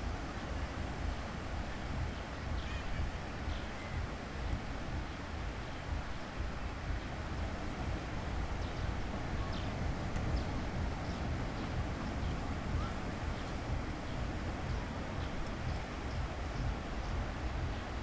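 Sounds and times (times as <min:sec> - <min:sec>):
faint ticks and chirps: 0:00.0 - 0:18.0
sea surf: 0:00.0 - 0:18.0
wind rumble on microphone: 0:00.0 - 0:18.0.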